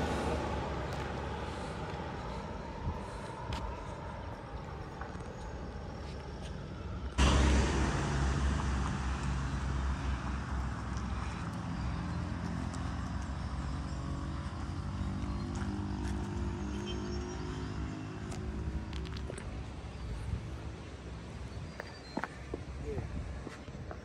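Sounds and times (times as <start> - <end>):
low engine hum: 0.0 - 24.0
rush of engine and tyre noise: 0.0 - 24.0.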